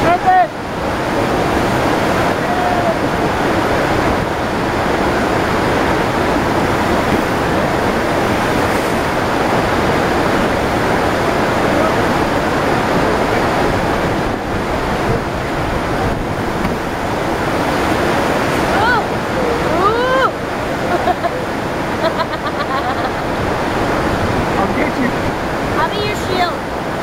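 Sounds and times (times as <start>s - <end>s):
rushing pumped water wave: 0.0s - 27.0s.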